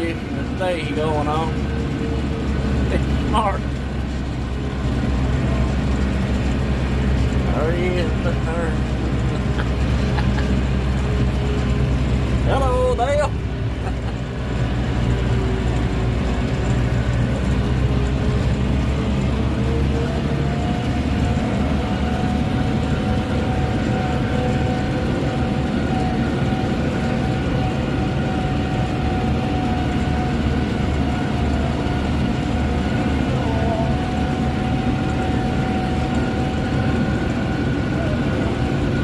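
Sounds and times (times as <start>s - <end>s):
steady mechanical whine: 0.0s - 39.0s
tractor engine running under load: 0.0s - 39.0s.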